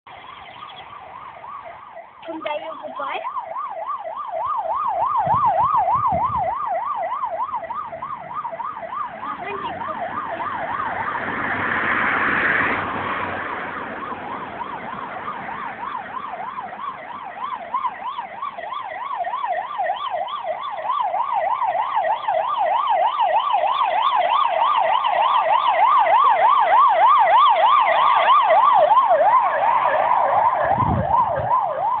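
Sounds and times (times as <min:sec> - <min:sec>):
police siren yelping: 0:00.1 - 0:32.0.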